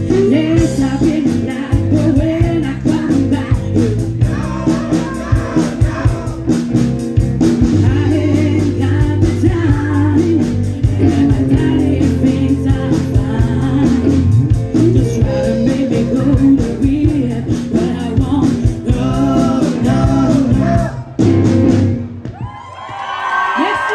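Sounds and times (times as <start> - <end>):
person singing: 0.0 - 6.6, 7.7 - 21.1
live rock band playing: 0.0 - 22.4.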